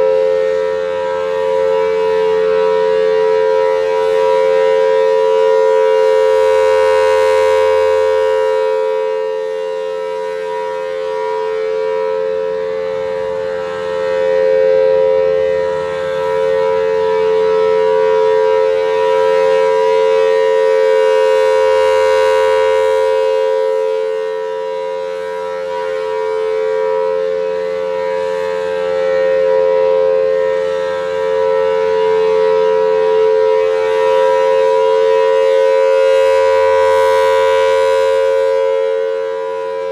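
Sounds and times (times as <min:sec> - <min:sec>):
warning siren two-note tone: 0:00.0 - 0:39.9.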